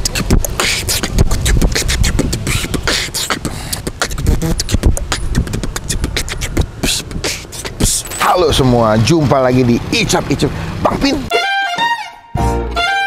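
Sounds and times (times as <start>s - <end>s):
man beatboxing: 0.0s - 11.3s.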